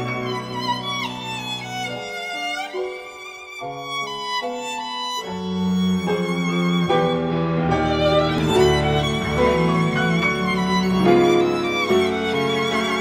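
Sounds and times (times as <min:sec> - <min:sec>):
violin with vibrato: 0:00.0 - 0:13.0.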